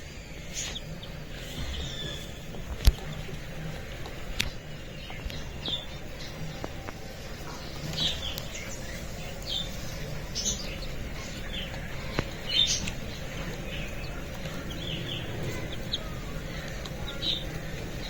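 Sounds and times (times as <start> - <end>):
chicks peeping: 0.0 - 18.0
low background hum: 0.0 - 18.0.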